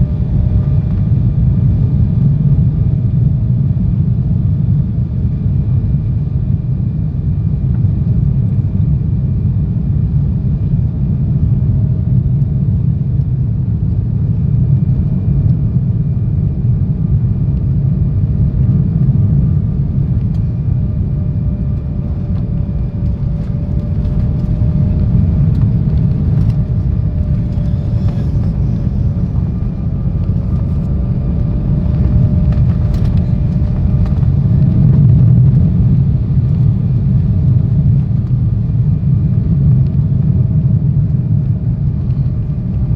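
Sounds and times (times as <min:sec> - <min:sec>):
faint jet engine whine: 0:00.0 - 0:42.9
jet cabin rumble: 0:00.0 - 0:42.9.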